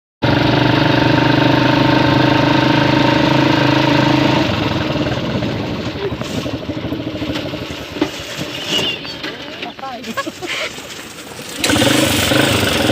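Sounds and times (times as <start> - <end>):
motorcycle engine idling: 0.2 - 12.9.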